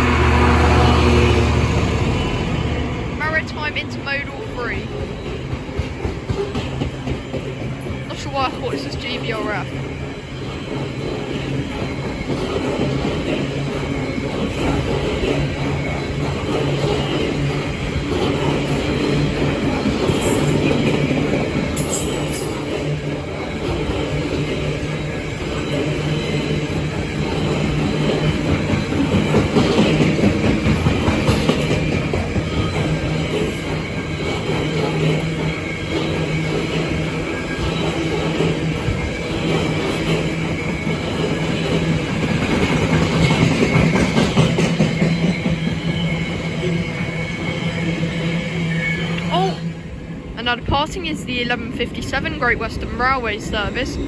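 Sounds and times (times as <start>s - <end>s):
freight train wagons rumbling: 0.0s - 54.0s.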